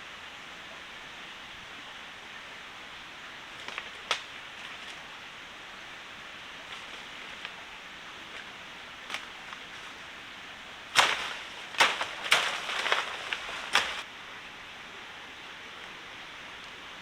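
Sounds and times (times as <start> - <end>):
forest stream rushing: 0.0 - 17.0.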